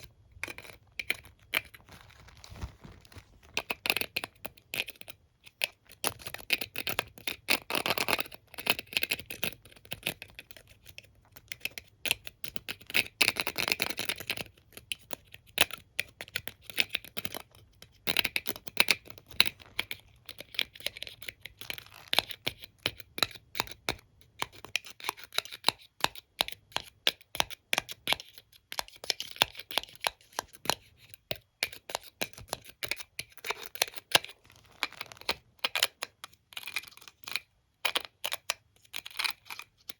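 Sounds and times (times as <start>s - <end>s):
taps and scratches on comb: 2.6s - 39.9s.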